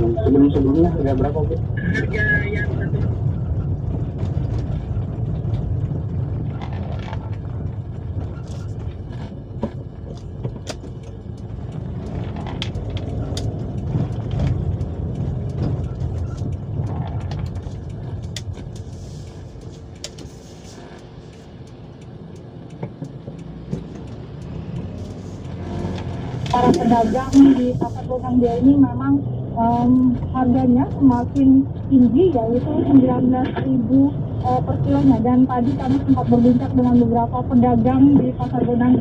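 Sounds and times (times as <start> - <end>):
vehicle rumble on road: 0.0 - 39.0.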